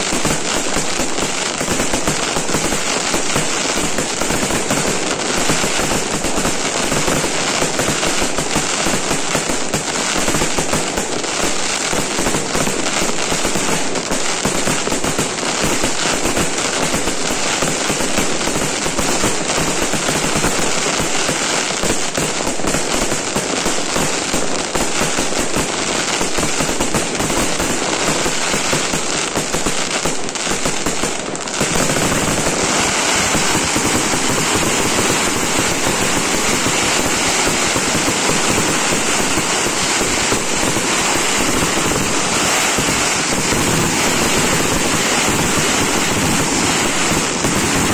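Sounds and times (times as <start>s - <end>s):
fireworks crackling and bursting: 0.0s - 47.9s.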